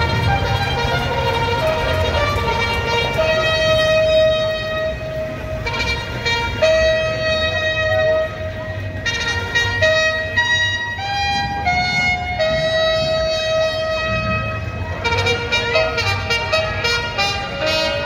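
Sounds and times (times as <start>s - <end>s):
brass band long horn notes: 0.0s - 18.0s.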